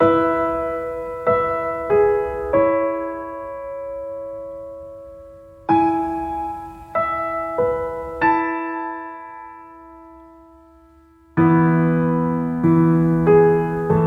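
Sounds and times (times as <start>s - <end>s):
slow solo piano chords: 0.0s - 14.0s.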